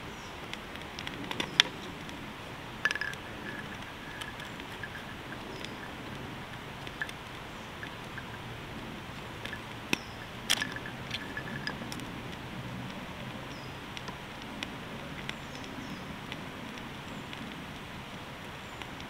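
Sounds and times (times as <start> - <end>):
steady fire hiss: 0.0 - 19.0
wood fire crackling: 0.0 - 19.0.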